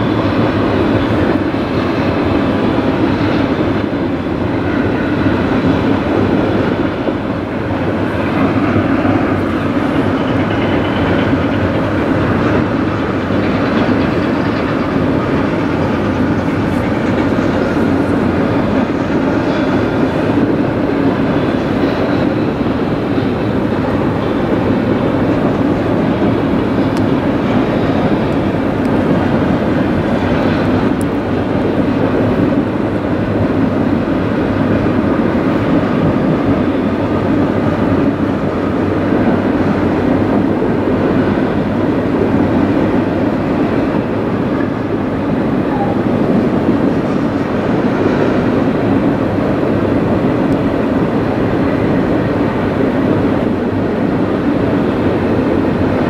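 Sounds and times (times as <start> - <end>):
freight train rolling over bridge: 0.0 - 56.0
wheels clickety-clack on rail: 0.0 - 56.0.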